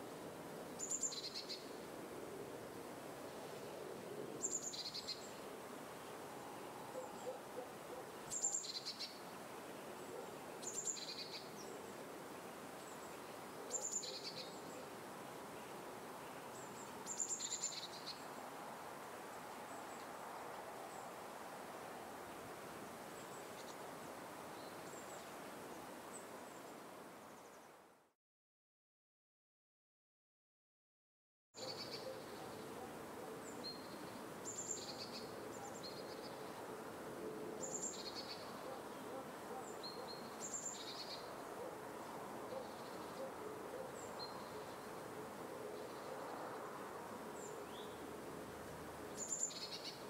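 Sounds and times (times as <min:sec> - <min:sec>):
outdoor background hiss: 0:00.0 - 0:28.2, 0:31.6 - 0:50.0.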